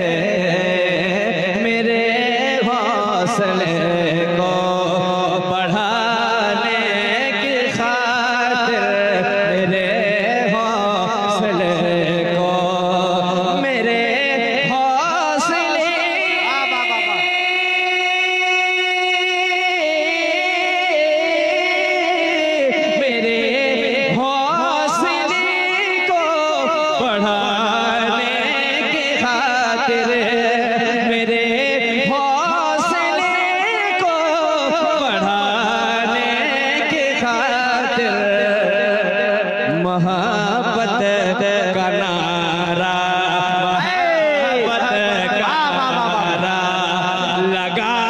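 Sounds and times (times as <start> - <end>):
man singing into a microphone: 0.0 - 48.0.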